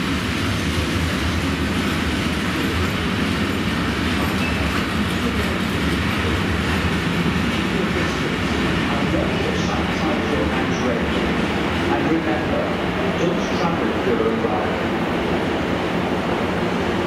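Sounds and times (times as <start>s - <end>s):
freight train wheels rolling: 0.0s - 17.0s.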